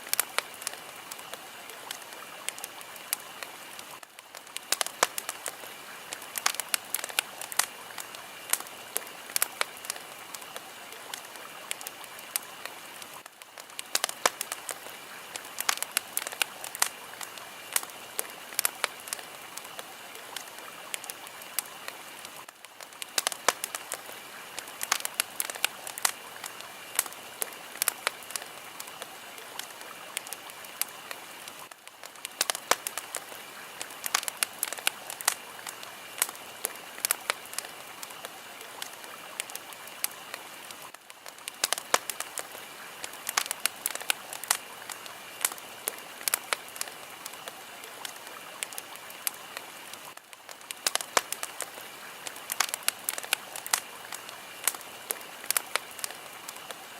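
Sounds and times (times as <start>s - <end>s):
fire crackling: 0.0s - 56.9s.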